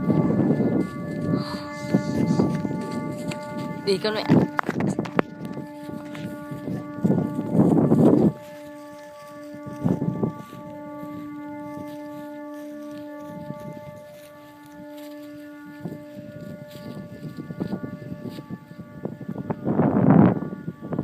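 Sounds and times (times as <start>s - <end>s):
kite flutes chord: 0.0s - 21.0s
wind buffeting microphone: 0.0s - 21.0s.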